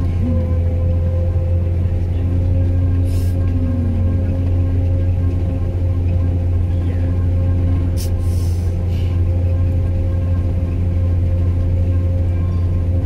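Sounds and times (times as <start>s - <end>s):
sprayer engine droning: 0.0s - 13.0s.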